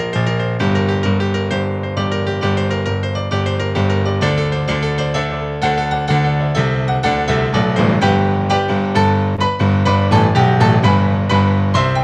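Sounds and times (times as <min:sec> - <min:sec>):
piano playing chords: 0:00.0 - 0:12.0.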